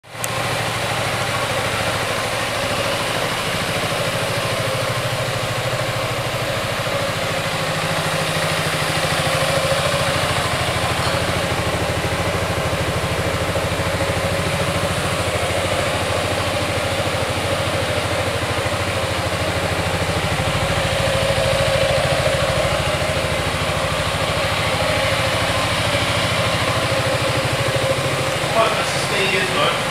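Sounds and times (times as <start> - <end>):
scooter engine idling: 0.0 - 29.9.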